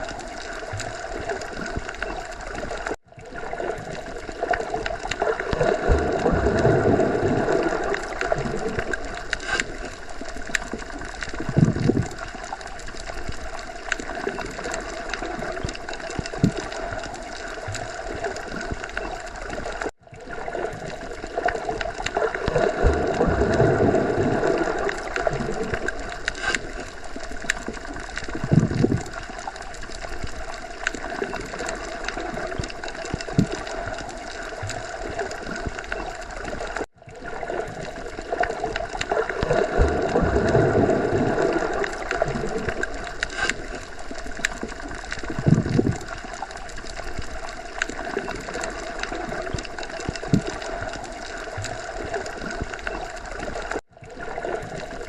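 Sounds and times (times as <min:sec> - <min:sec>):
underwater clicks: 0:00.0 - 0:36.9, 0:37.5 - 0:55.0
underwater water noise: 0:00.0 - 0:55.0.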